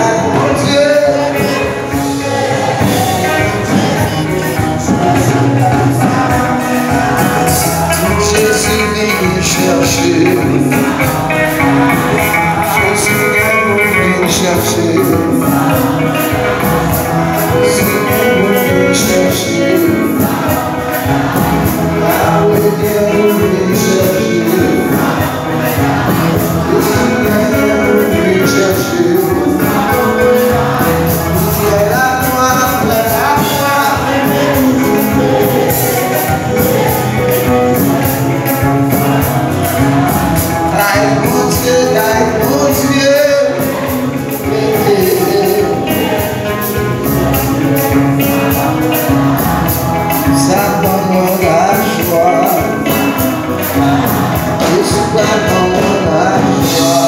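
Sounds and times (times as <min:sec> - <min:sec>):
worship singing over instruments: 0:00.0 - 0:57.0.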